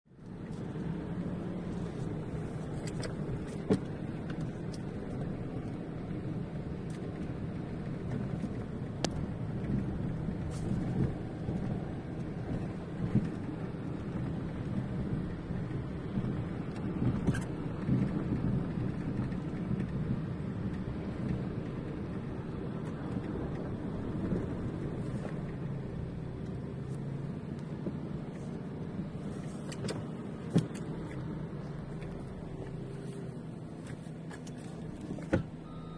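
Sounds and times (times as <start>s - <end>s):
vehicle engine rumbling: 0.0s - 35.9s.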